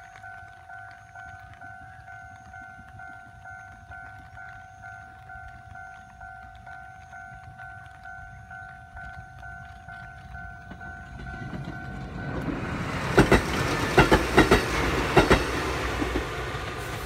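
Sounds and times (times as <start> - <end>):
level crossing alarm dinging: 0.0 - 16.4
electric train rumble: 0.0 - 17.0
wheels clacking over rail joints: 0.0 - 17.0.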